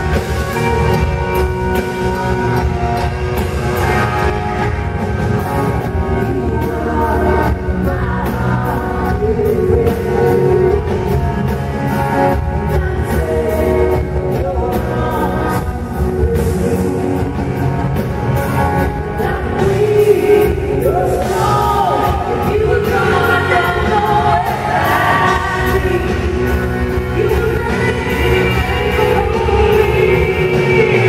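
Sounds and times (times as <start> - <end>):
electric guitar: 0.0 - 31.0
woman singing: 0.0 - 31.0.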